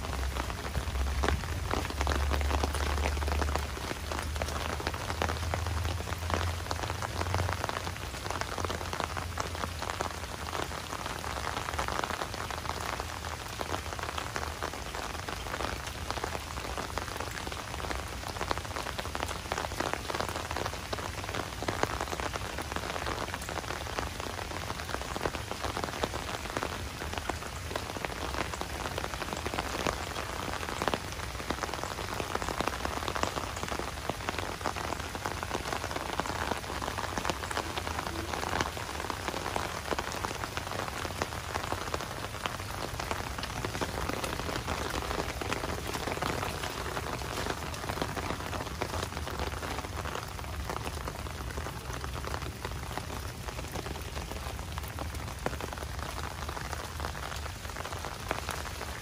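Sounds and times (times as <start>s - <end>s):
light rain on leaves: 0.0s - 59.0s.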